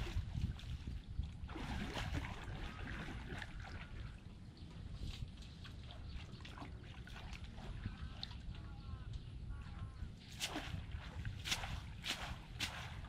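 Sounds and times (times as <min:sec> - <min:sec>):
small splashes and ticks: 0:00.0 - 0:09.3, 0:10.2 - 0:13.0
shallow water sloshing and trickling: 0:00.0 - 0:13.0.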